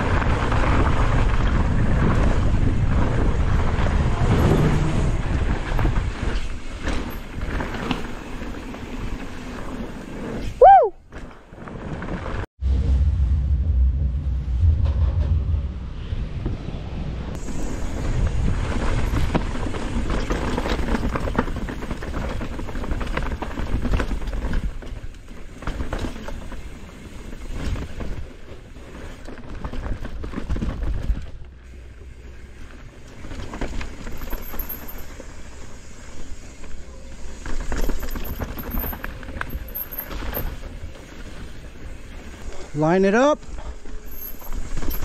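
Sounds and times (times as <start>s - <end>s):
bike chain and frame clatter: 0.0s - 12.5s, 17.4s - 45.0s
bike tyres rumbling over dirt: 0.0s - 13.0s, 16.2s - 45.0s.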